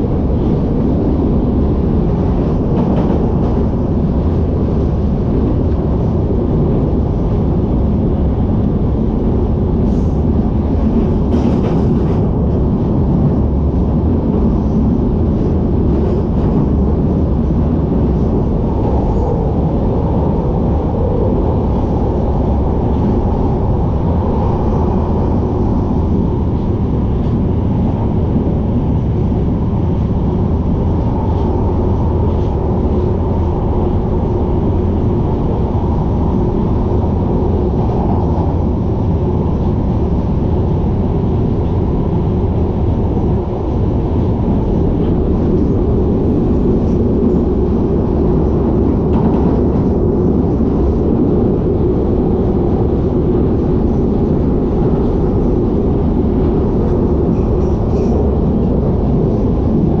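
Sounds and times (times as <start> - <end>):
train rumbling through tunnel: 0.0 - 60.0.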